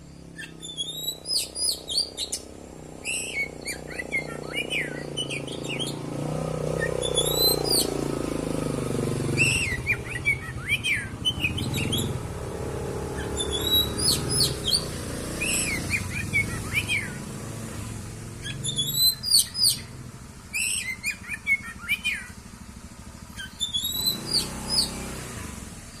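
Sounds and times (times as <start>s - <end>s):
bird singing whistled notes: 0.0s - 22.5s, 23.2s - 25.2s.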